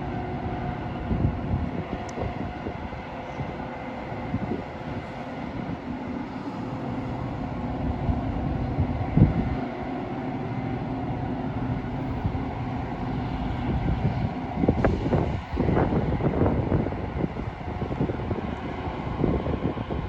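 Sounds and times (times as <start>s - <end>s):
train rumbling drone: 0.0s - 20.0s.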